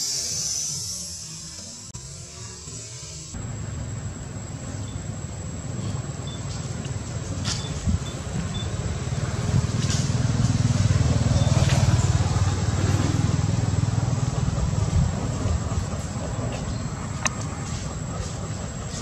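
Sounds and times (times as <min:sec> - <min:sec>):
vehicle engine rumble: 0:03.4 - 0:19.0.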